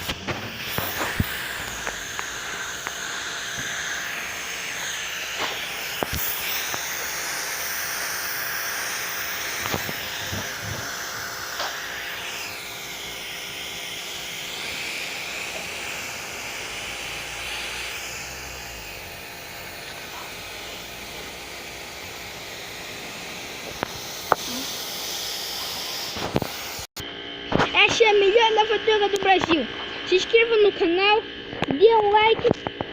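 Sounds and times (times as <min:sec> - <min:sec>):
pressure washer spraying: 0:00.0 - 0:26.9.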